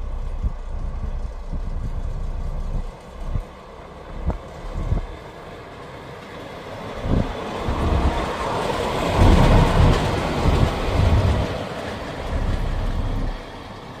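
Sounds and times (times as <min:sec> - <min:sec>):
diesel locomotive passing: 0:00.0 - 0:14.0.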